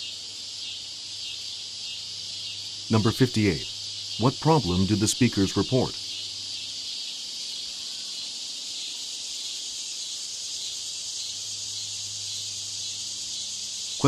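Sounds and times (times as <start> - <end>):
high-pitched background hiss: 0.0 - 14.0.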